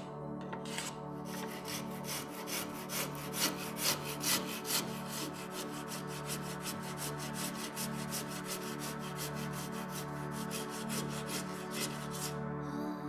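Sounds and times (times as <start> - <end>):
soft background music: 0.0 - 13.0
hand tool stroking wood: 0.5 - 12.4.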